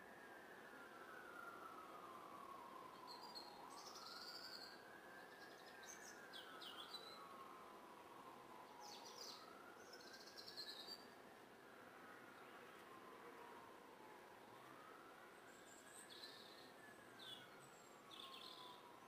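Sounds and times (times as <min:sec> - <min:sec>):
distant siren wailing: 0:00.0 - 0:19.0.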